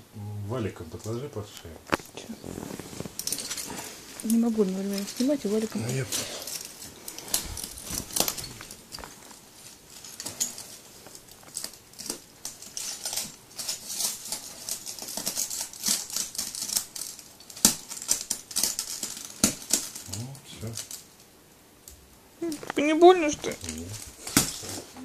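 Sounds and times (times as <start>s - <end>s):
broken glass crunching: 2.7s - 21.0s, 22.7s - 24.9s.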